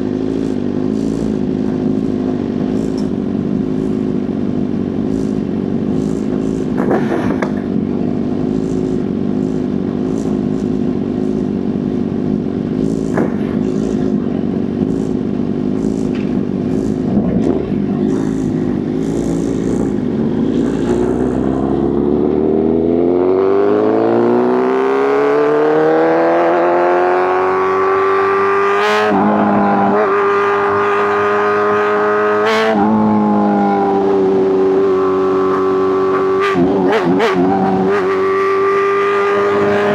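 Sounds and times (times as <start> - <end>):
motorcycle engine and exhaust: 0.0 - 39.9
wind and road noise: 0.0 - 39.9.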